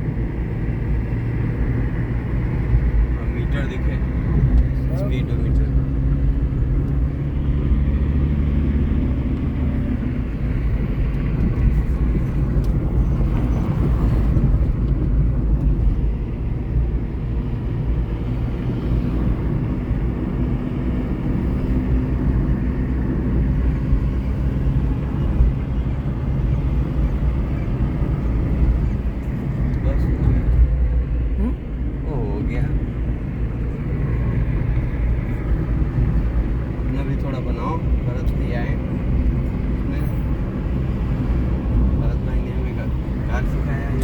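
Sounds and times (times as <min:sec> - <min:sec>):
car engine drone: 0:00.0 - 0:44.0
road noise: 0:00.0 - 0:44.0.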